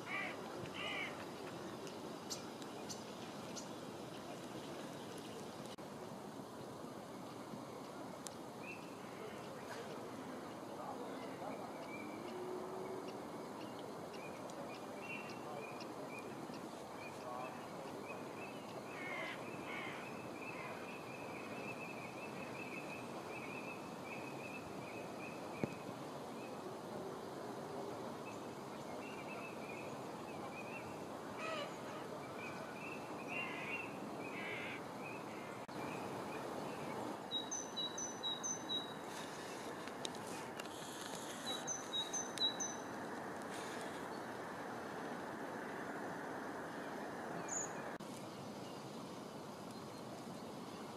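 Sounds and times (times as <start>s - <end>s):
rushing outdoor background noise: 0.0s - 50.9s.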